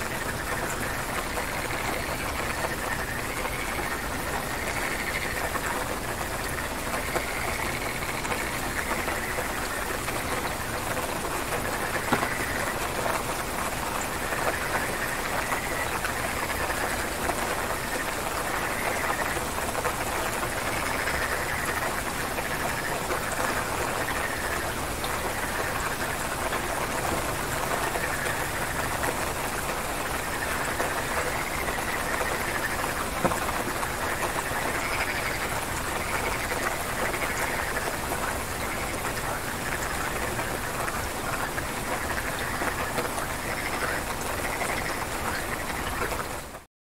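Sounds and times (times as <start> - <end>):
frogs calling: 0.0 - 46.6
steady rain falling: 0.0 - 46.7.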